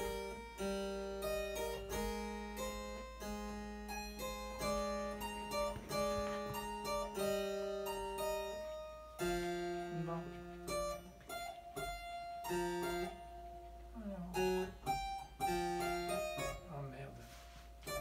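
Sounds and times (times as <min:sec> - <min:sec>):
harpsichord playing: 0:00.0 - 0:18.0.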